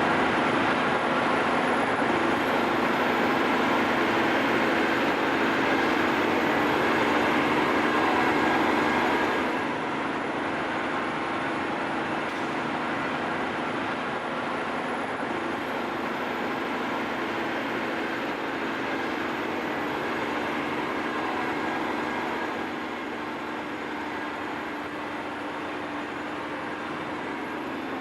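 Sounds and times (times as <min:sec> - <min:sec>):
truck engine drone from cab: 0:00.0 - 0:28.0.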